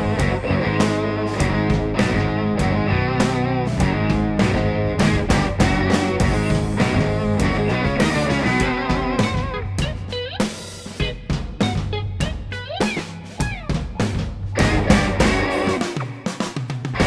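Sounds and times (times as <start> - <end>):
electric guitar with bends: 0.0 - 13.3, 14.6 - 16.3
drum kit beat: 0.0 - 17.0.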